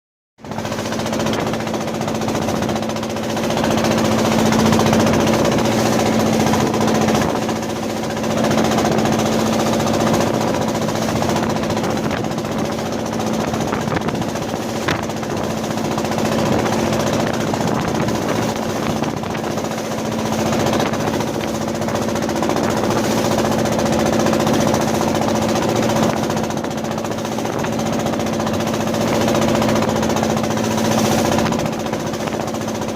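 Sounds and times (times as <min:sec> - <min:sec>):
machinery humming and rattling: 0:00.4 - 0:32.9.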